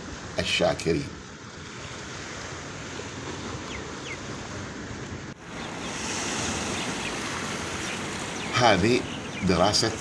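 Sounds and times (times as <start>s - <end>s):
sea surf washing on shore: 0.0s - 10.0s.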